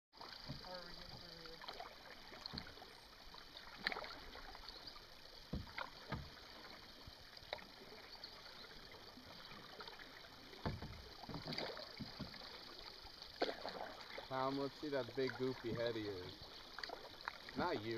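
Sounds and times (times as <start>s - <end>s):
water swishes and drips: 0.1s - 17.9s.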